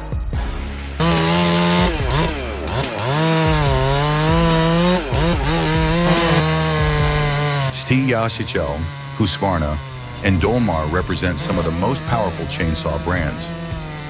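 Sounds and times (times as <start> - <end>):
chainsaw engine revving: 1.0 - 14.0.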